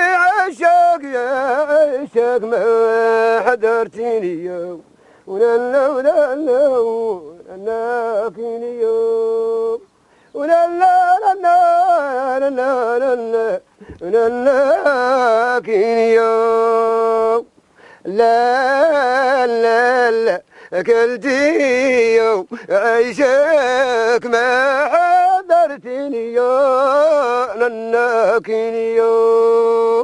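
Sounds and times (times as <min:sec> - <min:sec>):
person singing ornamented melody: 0:00.0 - 0:30.0.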